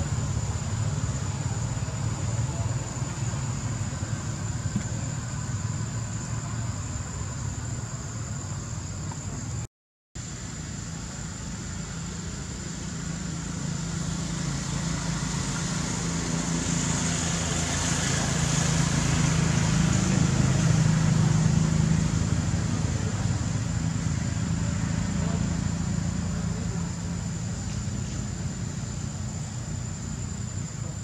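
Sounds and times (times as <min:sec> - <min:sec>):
vehicle engine running: 0:00.0 - 0:09.6, 0:10.3 - 0:31.0.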